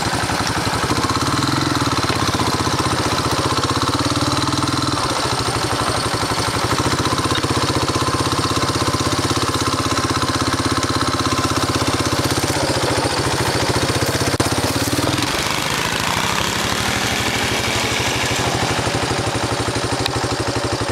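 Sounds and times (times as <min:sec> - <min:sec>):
small engine running: 0:00.0 - 0:20.9.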